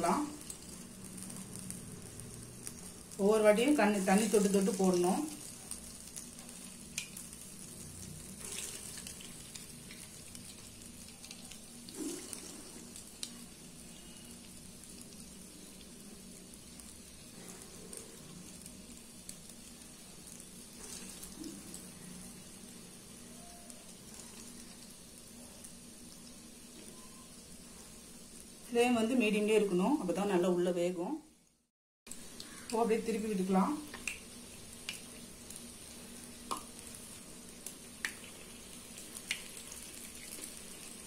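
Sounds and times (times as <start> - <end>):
batter sizzling in hot oil: 0.0 - 41.0.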